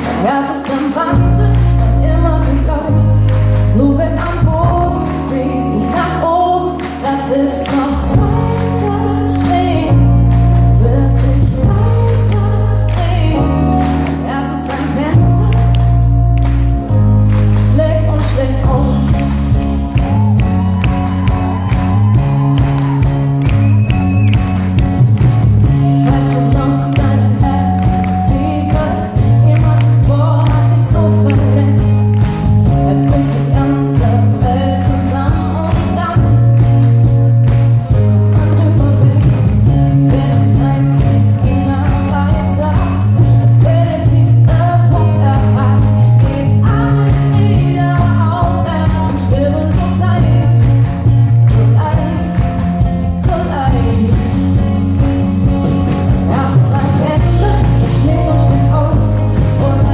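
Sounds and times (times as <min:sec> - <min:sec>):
woman singing: 0:00.0 - 0:16.5, 0:17.4 - 0:22.9, 0:25.7 - 0:36.9, 0:37.9 - 0:55.1, 0:56.1 - 0:59.9
live pop-rock band: 0:00.0 - 0:59.9.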